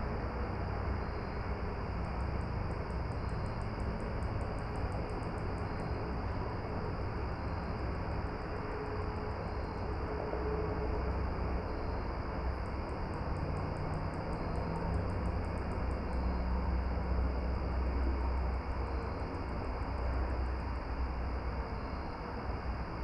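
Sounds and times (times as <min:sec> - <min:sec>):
outdoor hiss and low rumble: 0:00.0 - 0:23.0.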